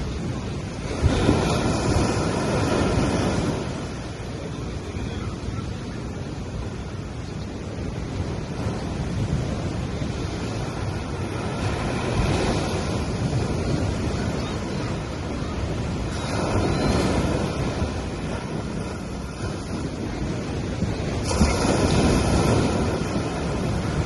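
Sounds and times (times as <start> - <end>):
sea waves washing onto beach: 0.0 - 24.0
wind rumbling on microphone: 0.0 - 24.0.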